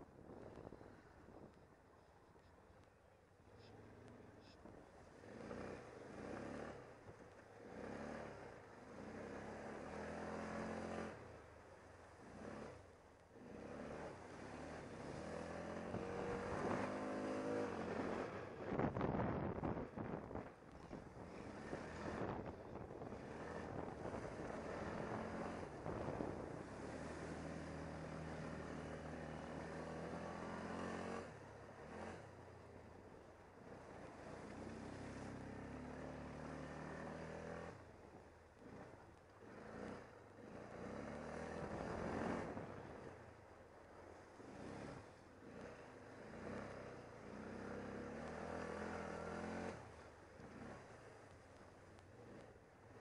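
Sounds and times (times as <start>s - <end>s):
quad bike engine revving: 3.6s - 53.0s.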